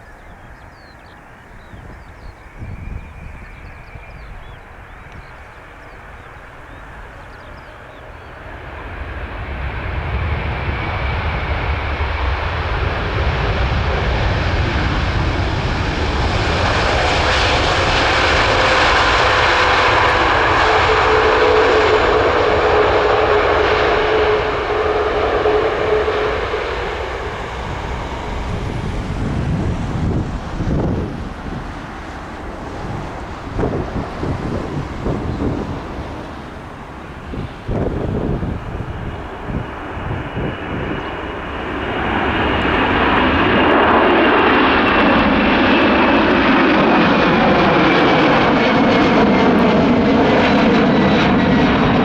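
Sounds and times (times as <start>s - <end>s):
jet airliner passing: 0.0s - 52.0s
jet engine whine: 0.0s - 52.0s.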